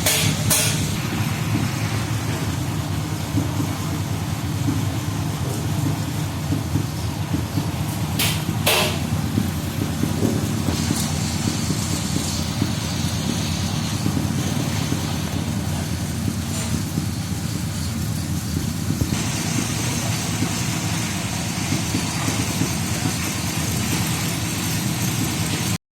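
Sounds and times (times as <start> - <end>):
high hiss: 0.0 - 25.8
vehicle engine idling: 0.0 - 25.8.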